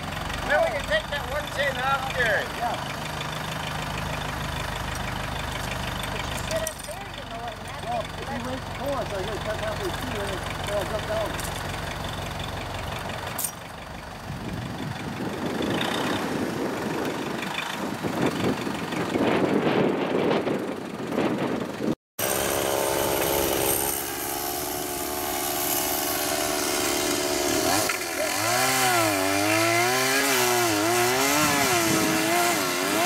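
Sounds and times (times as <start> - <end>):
chainsaw engine running: 0.0 - 13.8, 14.4 - 19.2, 22.2 - 33.0.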